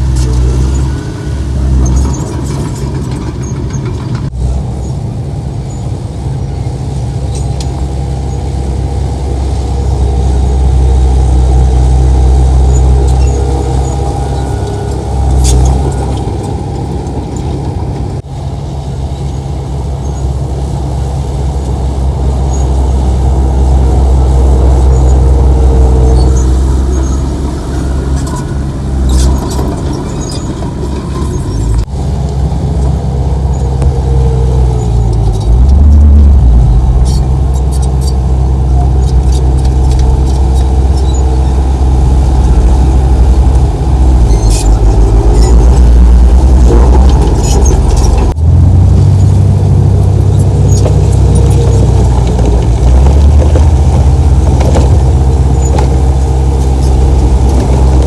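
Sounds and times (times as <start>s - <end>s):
heavy diesel machinery rumbling: 0.0s - 58.0s.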